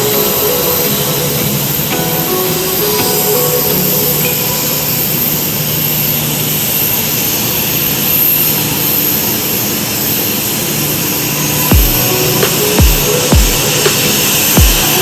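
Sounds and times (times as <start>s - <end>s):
high-pitched jet whine: 0.0s - 15.0s.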